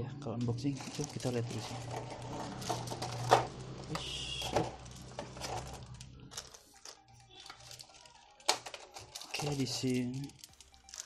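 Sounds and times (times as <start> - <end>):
plastic bag crinkling: 0.1 - 11.0.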